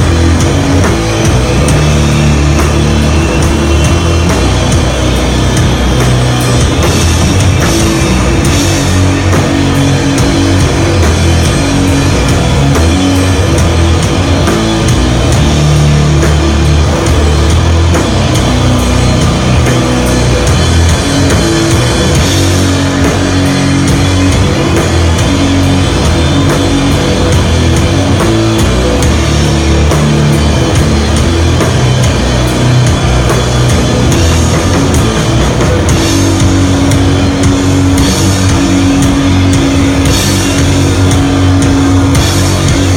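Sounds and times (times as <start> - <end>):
doom metal band playing live: 0.0 - 42.9.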